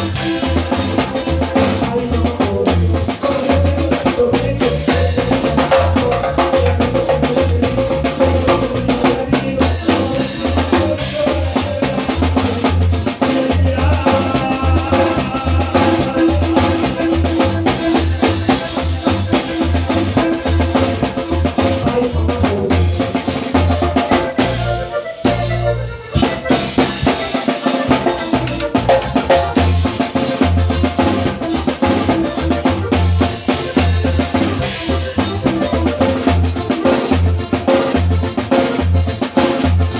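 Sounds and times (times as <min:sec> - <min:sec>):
zapateado music with drum beat: 0:00.0 - 0:39.9.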